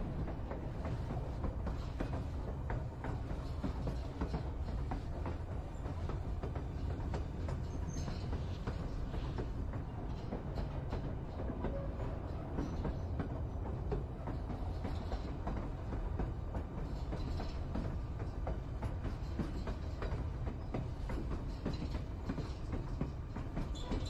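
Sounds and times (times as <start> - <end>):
train rumbling: 0.0 - 24.0
wheels clicking on track: 0.0 - 24.0.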